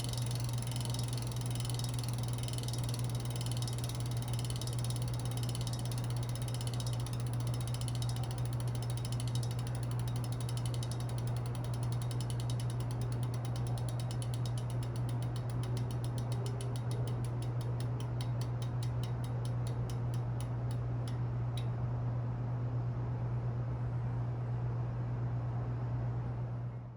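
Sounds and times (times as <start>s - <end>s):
bicycle freehub ticking: 0.0s - 21.7s
low hum: 0.0s - 22.4s.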